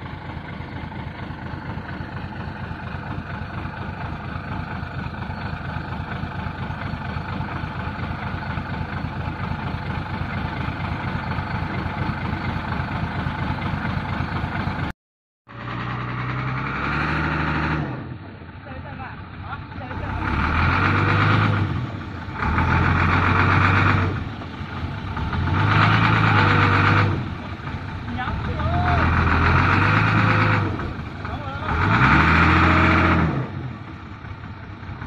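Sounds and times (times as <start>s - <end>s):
diesel truck engine running: 0.0s - 14.9s, 15.5s - 35.0s.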